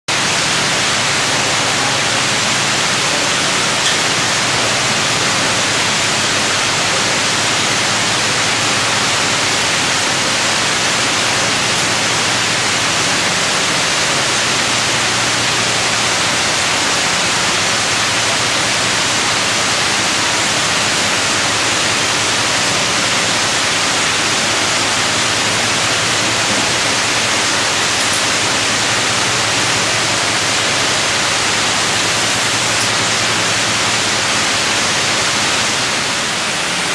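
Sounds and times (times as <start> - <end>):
loud steady hiss: 0.1 - 36.9.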